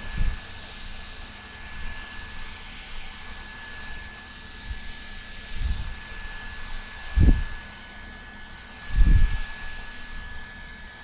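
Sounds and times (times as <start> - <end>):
mini fan whirring: 0.0 - 11.0.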